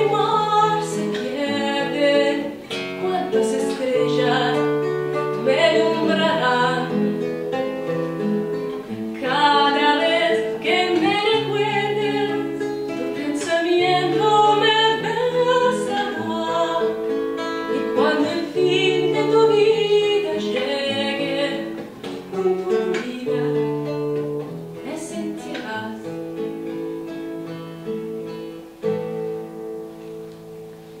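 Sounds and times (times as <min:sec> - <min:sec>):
woman singing a tango: 0:00.0 - 0:26.8
acoustic guitar: 0:00.0 - 0:31.0.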